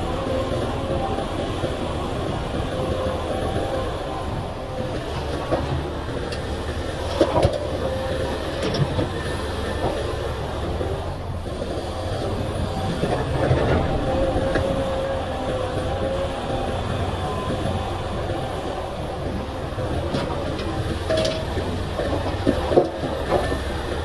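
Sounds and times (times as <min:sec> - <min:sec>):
excavator diesel engine under load: 0:00.0 - 0:24.0.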